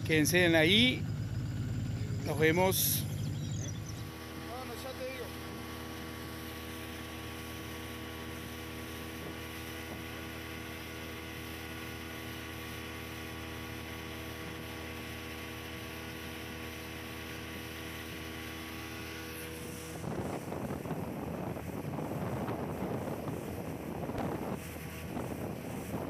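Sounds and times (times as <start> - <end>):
steady motor hum: 0.0 - 26.0.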